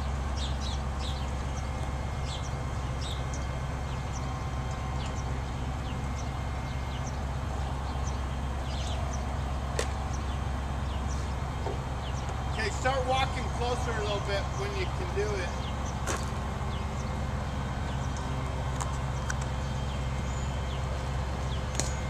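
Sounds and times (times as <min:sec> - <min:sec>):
birds chirping: 0:00.0 - 0:22.0
truck engine running: 0:00.0 - 0:22.0.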